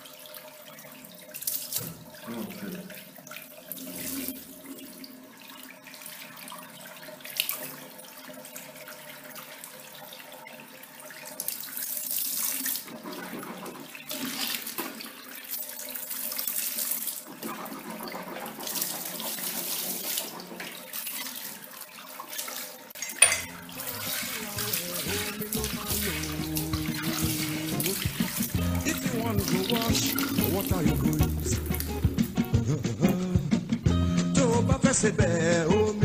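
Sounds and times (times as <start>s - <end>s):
water running and splashing: 0.0s - 32.6s.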